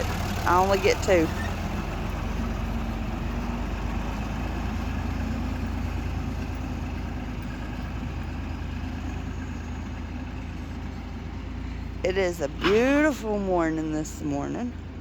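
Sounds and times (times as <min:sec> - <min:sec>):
farm machinery droning: 0:00.0 - 0:15.0.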